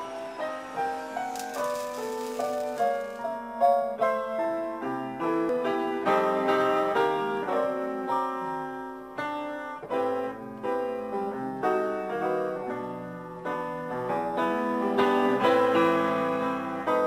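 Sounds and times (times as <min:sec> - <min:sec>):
upright piano playing a slow waltz: 0:00.0 - 0:17.0.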